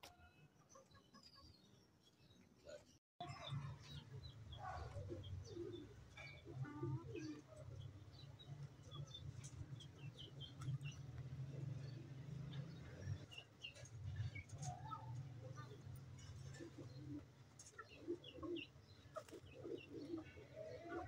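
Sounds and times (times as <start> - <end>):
small birds chirping: 0.6 - 21.0.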